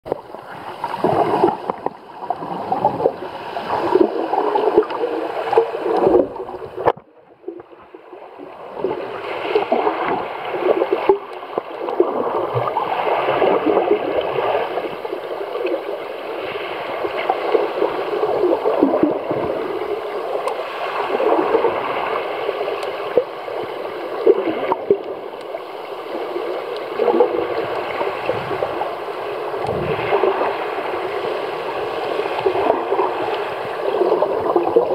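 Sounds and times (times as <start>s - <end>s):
muffled underwater rushing and gurgling: 0.1s - 34.9s.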